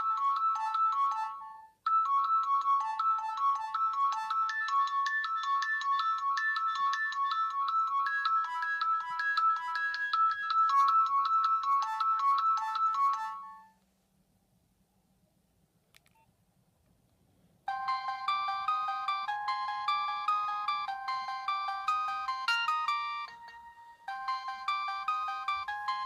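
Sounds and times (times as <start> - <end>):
phone ringtone melody: 0.0 - 13.8, 17.7 - 26.0.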